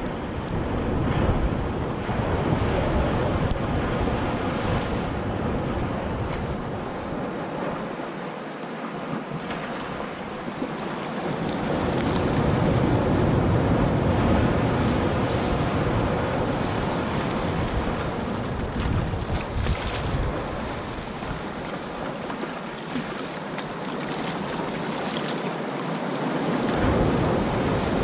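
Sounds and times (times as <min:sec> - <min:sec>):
waves washing over sand: 0:00.0 - 0:28.0.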